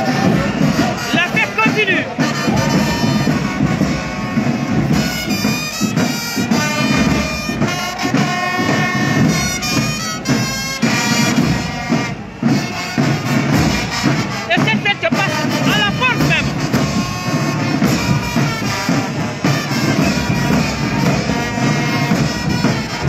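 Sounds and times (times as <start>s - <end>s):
parade drums: 0.0s - 23.0s
wind instruments playing melody: 0.0s - 23.0s.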